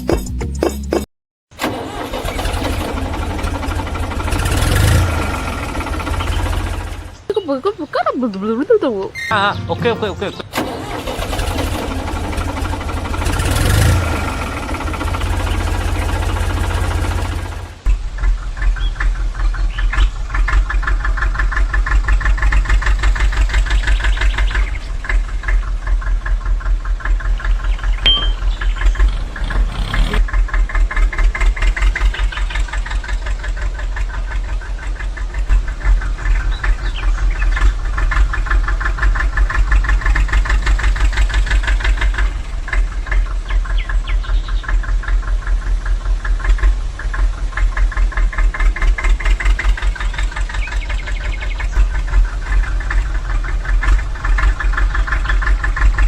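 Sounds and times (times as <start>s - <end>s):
small diesel engine chugging: 1.5s - 8.9s, 10.4s - 56.0s.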